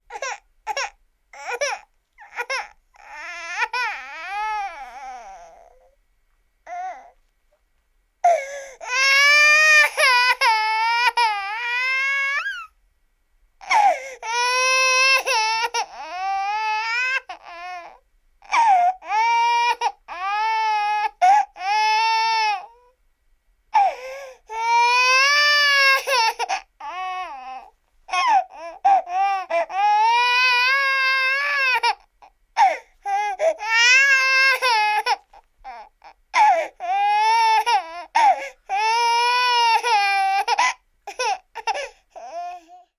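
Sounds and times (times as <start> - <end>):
baby crying: 0.1 - 5.9, 6.7 - 7.2, 8.2 - 12.7, 13.6 - 22.9, 23.8 - 42.9.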